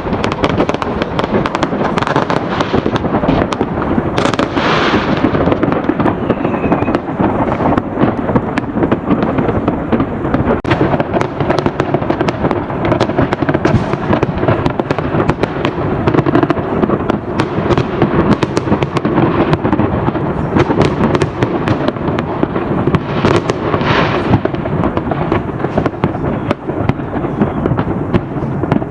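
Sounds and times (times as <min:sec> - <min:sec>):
fireworks bangs and crackles: 0:00.0 - 0:28.9.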